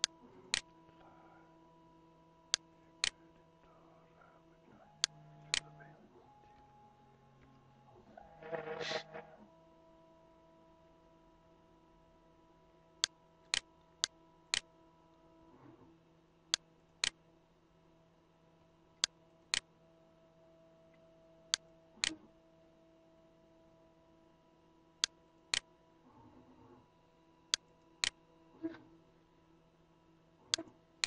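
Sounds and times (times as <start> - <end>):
faint electrical hum: 0.0 - 31.0.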